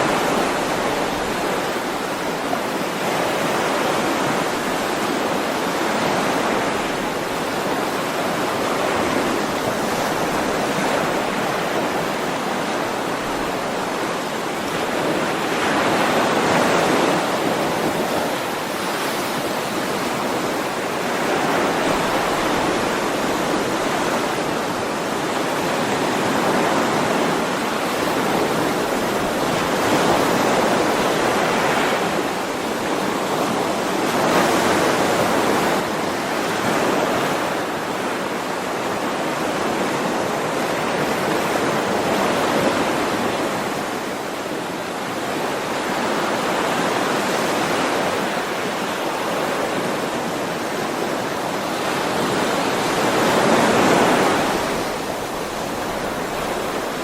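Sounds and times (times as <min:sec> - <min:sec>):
ocean waves on shore: 0:00.0 - 0:57.0.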